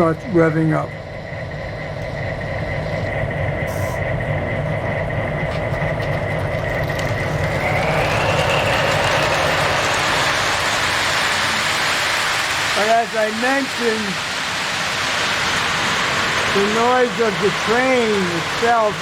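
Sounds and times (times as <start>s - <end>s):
model train whine and rumble: 0.0s - 19.0s.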